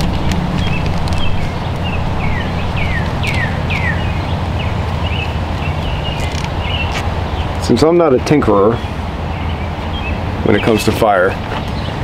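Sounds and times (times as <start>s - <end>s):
bird chirping: 0.0s - 8.0s, 8.6s - 12.0s
steady low rumble: 0.0s - 12.0s.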